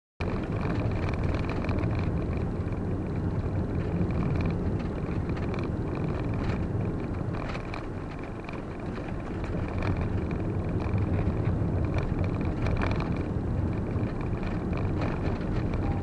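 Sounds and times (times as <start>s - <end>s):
vehicle engine and road rumble: 0.2s - 16.0s.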